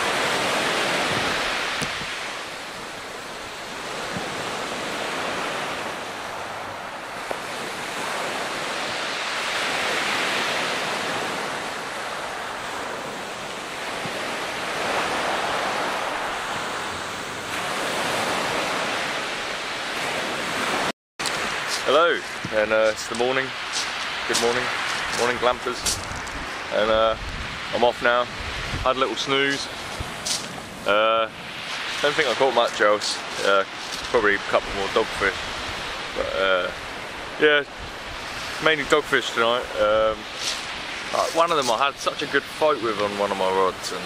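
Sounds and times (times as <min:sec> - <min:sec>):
waves breaking on shingle beach: 0:00.0 - 0:44.0.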